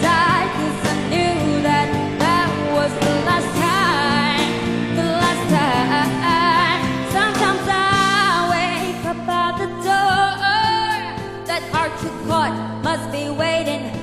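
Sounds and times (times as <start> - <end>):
pop band playing: 0.0 - 14.0.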